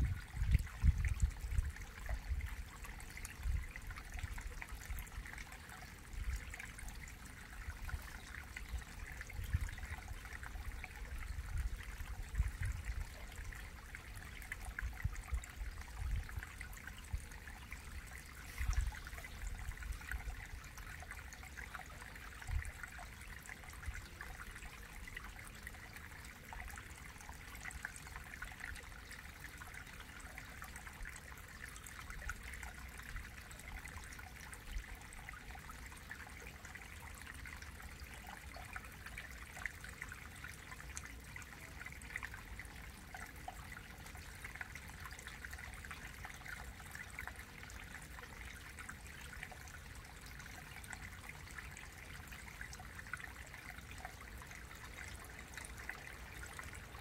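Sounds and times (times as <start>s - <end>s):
small water splashes: 0.0s - 57.0s
stream trickling into pool: 0.0s - 57.0s.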